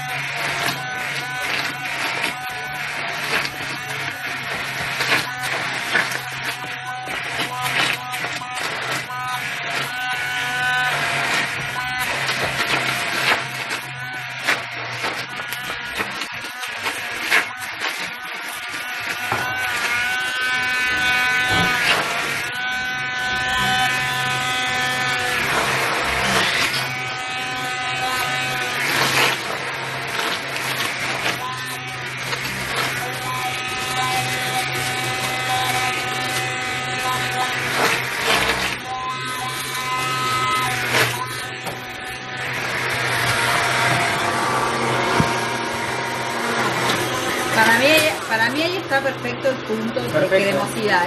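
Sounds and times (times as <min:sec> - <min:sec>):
hand blender motor whine: 0:00.0 - 0:51.0.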